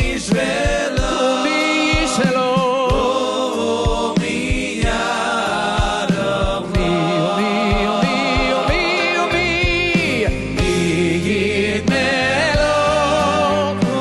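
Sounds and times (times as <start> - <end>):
band accompaniment: 0.0 - 14.0
person singing with vibrato: 0.0 - 14.0
steady drum beat: 0.0 - 14.0.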